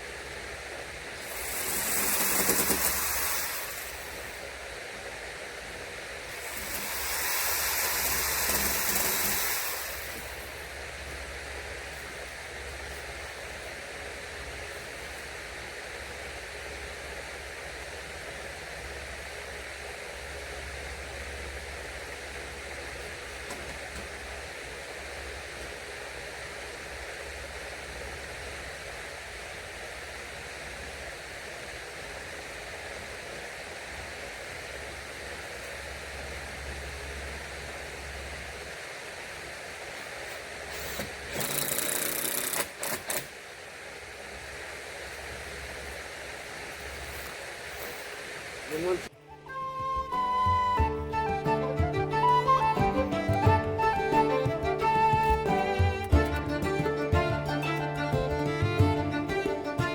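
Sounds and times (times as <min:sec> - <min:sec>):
outdoor background hiss: 0:00.0 - 0:59.9.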